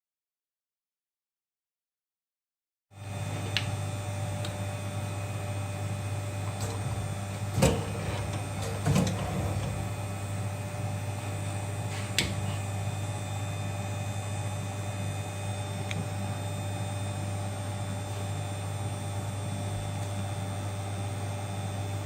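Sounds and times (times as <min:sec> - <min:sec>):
machine electric hum: 0:03.0 - 0:22.0.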